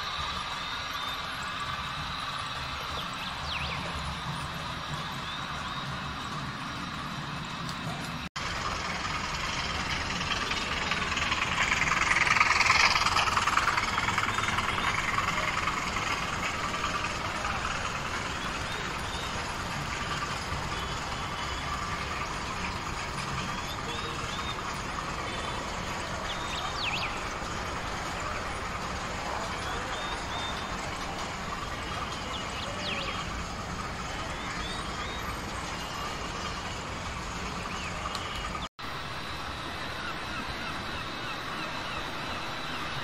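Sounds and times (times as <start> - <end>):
model train whirring hum: 0.0 - 43.0.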